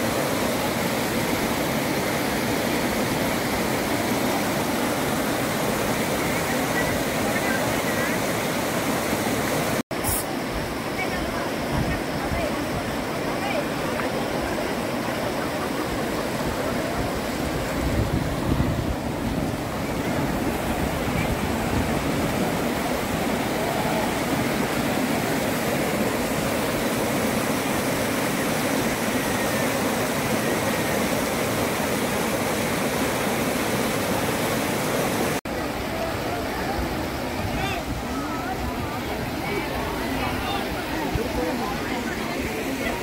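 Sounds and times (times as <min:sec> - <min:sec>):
water rushing over rocks: 0:00.0 - 0:43.0.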